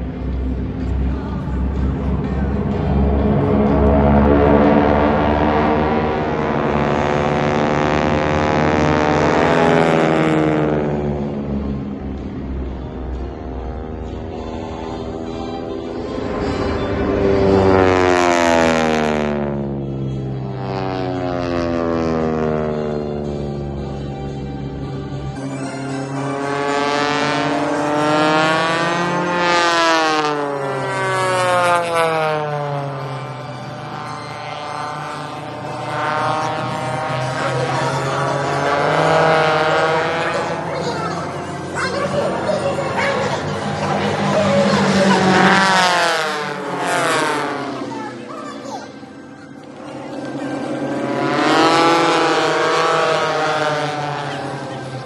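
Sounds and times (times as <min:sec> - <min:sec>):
aircraft engine passing by: 0:00.0 - 0:55.0.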